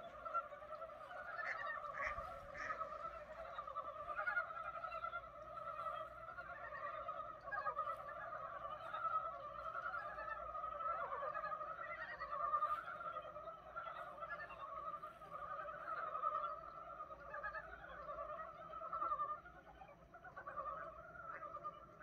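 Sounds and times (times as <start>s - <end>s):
frogs chorus calling: 0.0s - 22.0s.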